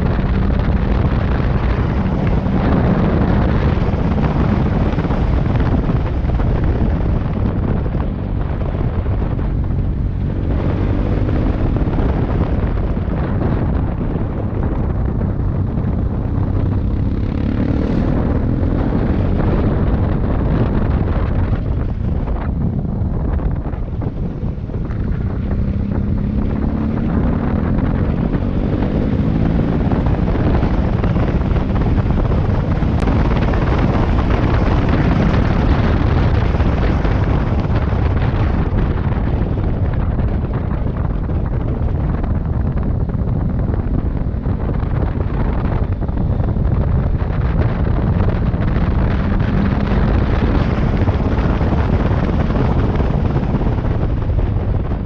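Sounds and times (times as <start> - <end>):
motorcycle engine running: 0.0 - 55.0
wind buffeting on microphone: 0.0 - 55.0.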